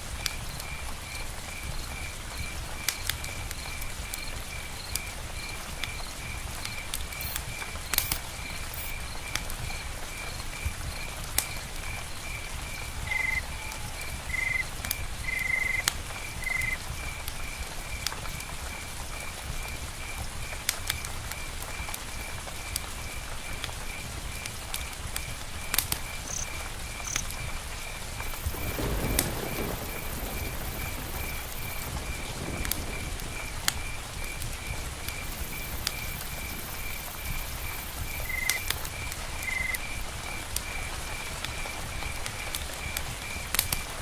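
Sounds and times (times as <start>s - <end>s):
raindrops ticking: 0.0s - 44.0s
steady rain: 0.0s - 44.0s
insect chirping: 0.5s - 18.1s, 25.6s - 43.9s.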